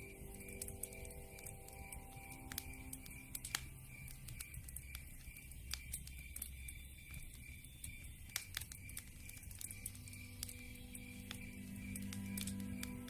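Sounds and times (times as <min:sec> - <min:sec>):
soft background music: 0:00.0 - 0:13.0
wood fire crackling: 0:00.0 - 0:13.0.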